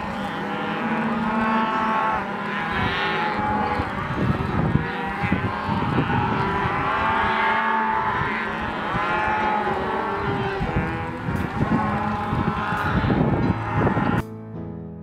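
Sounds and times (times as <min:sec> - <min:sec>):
cows and calves bawling and mooing: 0:00.0 - 0:14.2.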